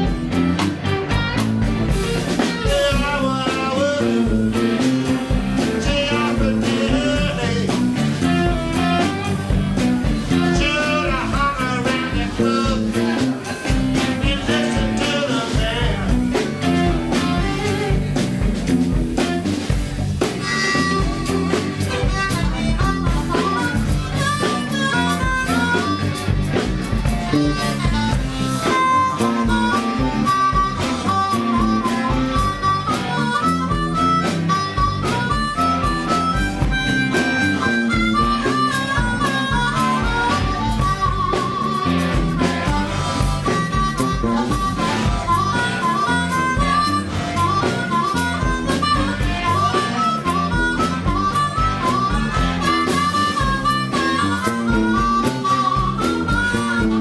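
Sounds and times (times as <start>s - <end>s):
blues harmonica solo: 0.0s - 57.0s
drum kit: 0.0s - 57.0s
electric bass: 0.0s - 57.0s.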